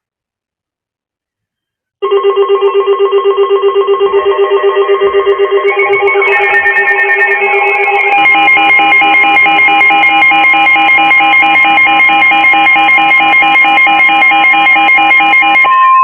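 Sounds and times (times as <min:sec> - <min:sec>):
synth music: 0:02.0 - 0:16.0
synthesizer trill tone: 0:02.0 - 0:16.0.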